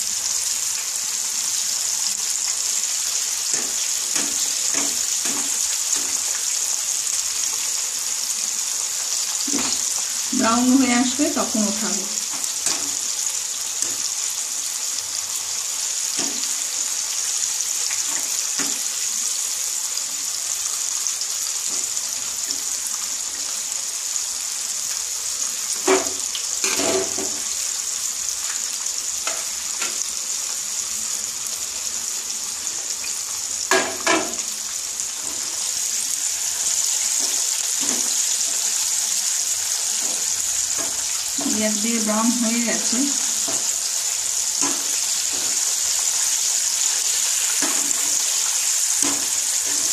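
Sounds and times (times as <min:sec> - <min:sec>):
chicken deep-frying in hot oil: 0:00.0 - 0:49.9.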